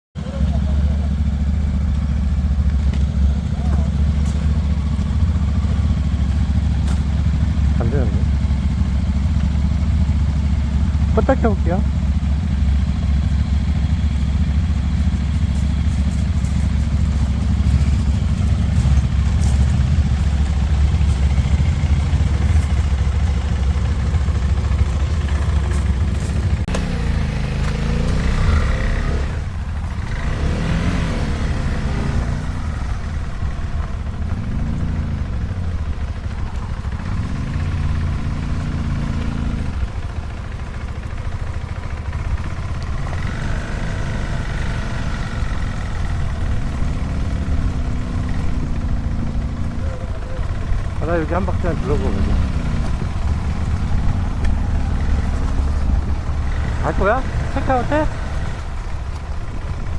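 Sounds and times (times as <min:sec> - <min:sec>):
motorcycle engine idling and revving: 0:00.1 - 0:59.9.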